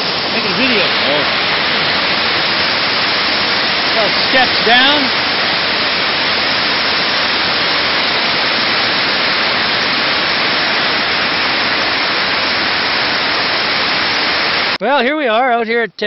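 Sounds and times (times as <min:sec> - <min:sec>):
water rushing down rocks: 0:00.0 - 0:14.8.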